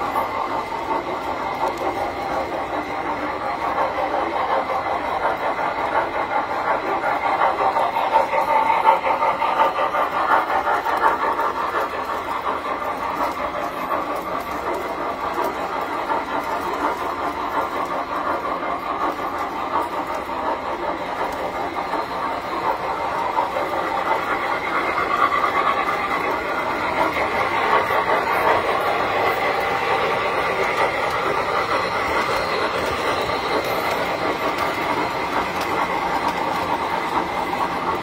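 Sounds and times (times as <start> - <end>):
model train on metal track: 0.0 - 38.0.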